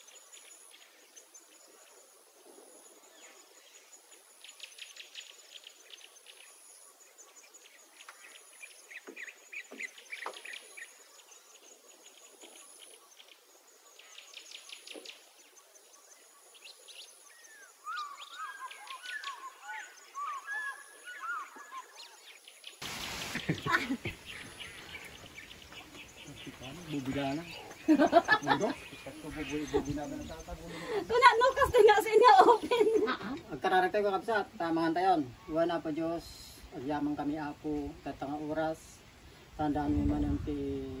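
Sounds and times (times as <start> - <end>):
rapid warbling bird calls: 0.0 - 33.2
birds chirping: 0.0 - 41.0.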